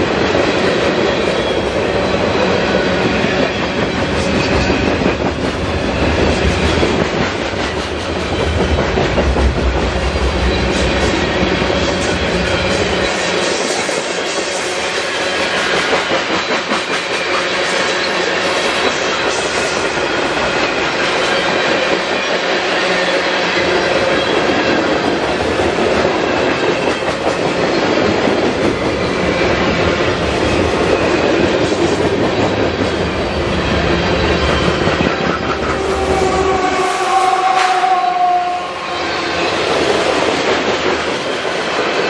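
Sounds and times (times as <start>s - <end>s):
diesel locomotive engine: 0.0s - 42.0s
freight train wheels clattering: 0.0s - 42.0s.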